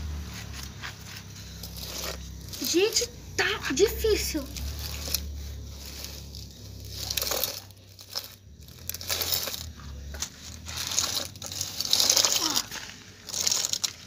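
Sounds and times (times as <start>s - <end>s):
toy truck wheels scraping through sand: 0.0s - 14.0s.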